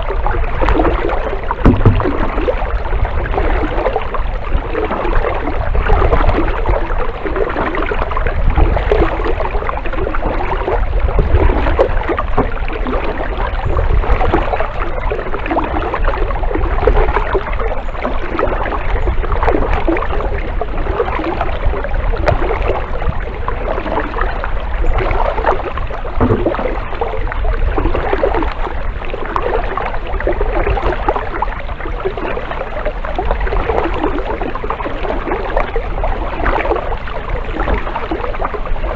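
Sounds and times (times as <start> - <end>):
steady low rumble: 0.0 - 38.9
water splashing around paddle: 0.0 - 38.9.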